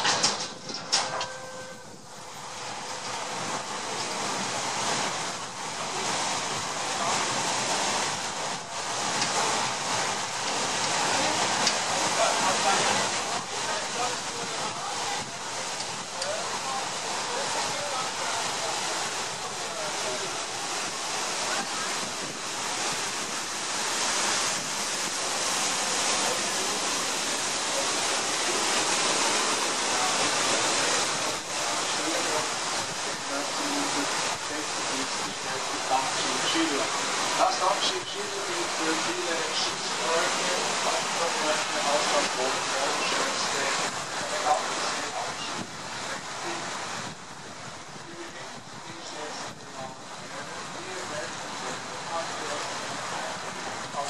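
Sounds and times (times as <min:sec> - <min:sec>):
paddle wheels churning water: 0:00.0 - 0:54.0.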